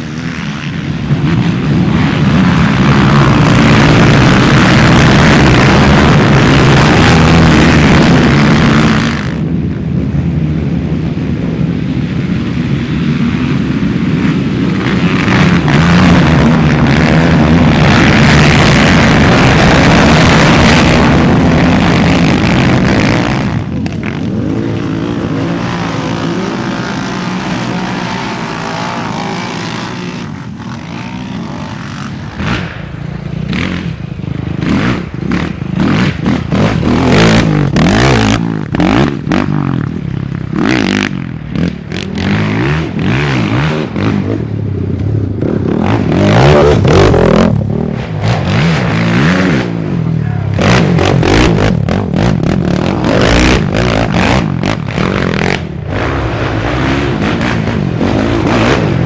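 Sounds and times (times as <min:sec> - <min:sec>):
quad engines revving: 0:00.0 - 0:09.8, 0:13.2 - 0:59.0.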